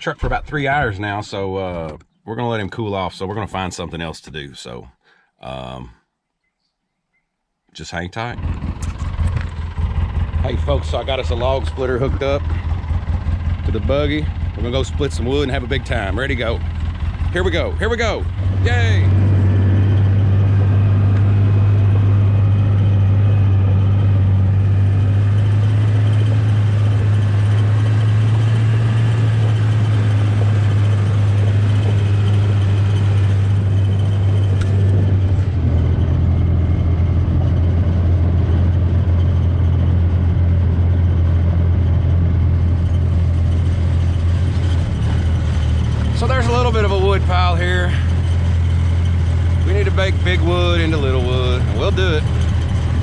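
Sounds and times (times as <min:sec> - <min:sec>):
utility vehicle engine droning: 0:00.0 - 0:02.0, 0:07.8 - 0:53.0.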